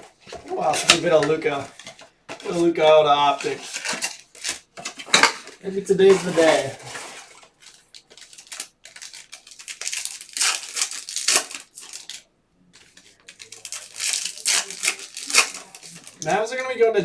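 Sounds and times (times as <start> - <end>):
foil wrappers crinkling: 0.0 - 16.4.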